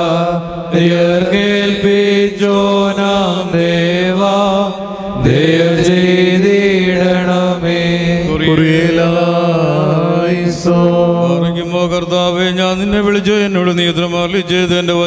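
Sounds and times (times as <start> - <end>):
slow liturgical chant: 0.0 - 15.0.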